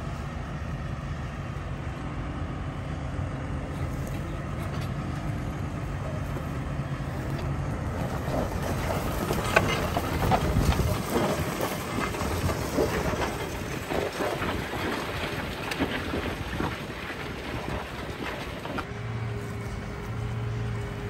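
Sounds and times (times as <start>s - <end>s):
tractor engine under load: 0.0s - 21.0s
plough crackling and clatter: 3.7s - 21.0s.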